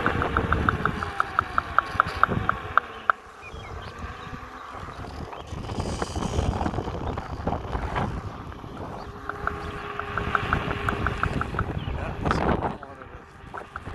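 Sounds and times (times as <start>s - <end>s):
electric unicycle riding: 0.0s - 13.9s
wheel knocking: 0.0s - 13.9s
wind on microphone: 0.0s - 13.9s.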